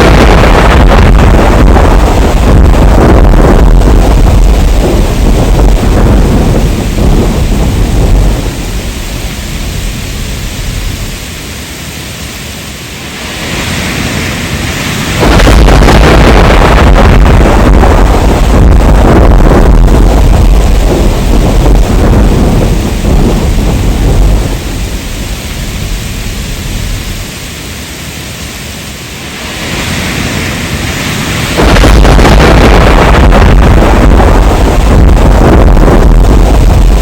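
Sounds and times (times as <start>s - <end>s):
rolling thunder: 0.0s - 11.4s, 13.0s - 27.6s, 29.2s - 37.0s
heavy rain: 0.0s - 37.0s.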